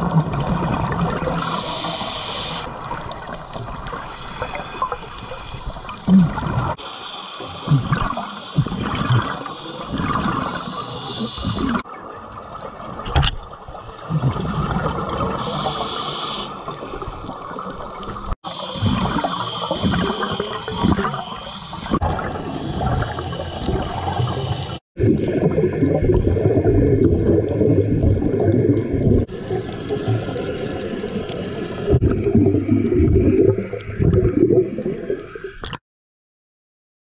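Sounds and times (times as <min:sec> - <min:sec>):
underwater bubbles gurgling: 0:00.0 - 0:35.8.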